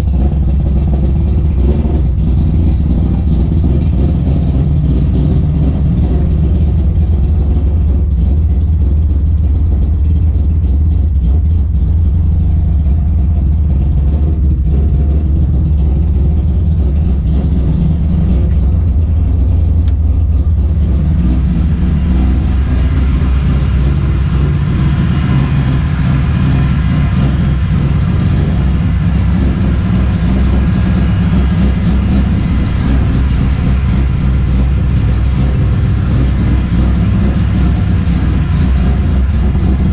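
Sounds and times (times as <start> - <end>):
rotary engine rumbling: 0.0 - 39.9.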